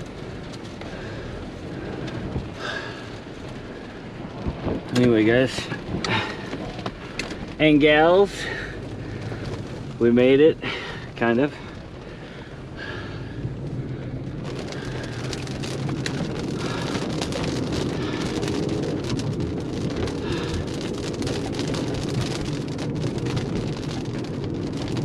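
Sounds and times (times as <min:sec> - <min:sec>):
heavy rain on hard surface: 0:00.0 - 0:25.0.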